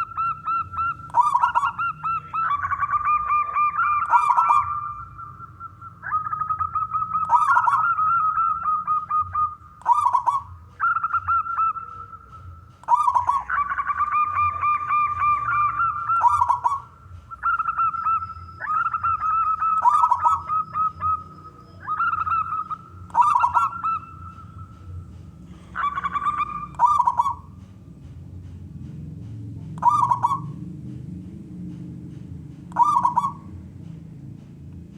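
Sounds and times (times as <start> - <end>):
dove trilled cooing: 0.0 - 27.7, 29.2 - 31.0, 32.6 - 34.0.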